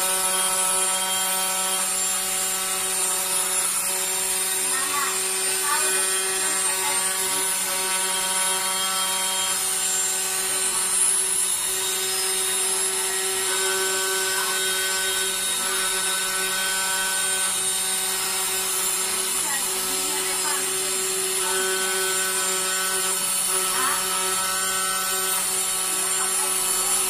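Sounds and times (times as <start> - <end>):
cnc router motors whining: 0.0 - 27.0.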